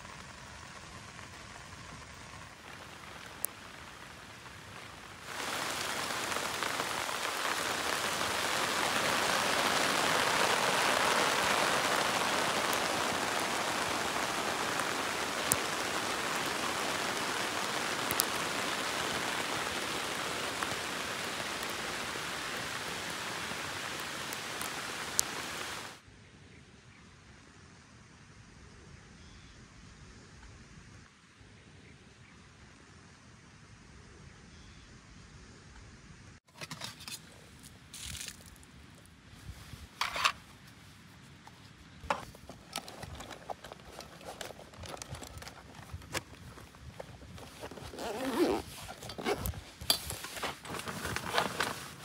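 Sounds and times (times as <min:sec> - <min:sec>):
steady rain hiss: 0:00.0 - 0:26.1, 0:26.7 - 0:52.0.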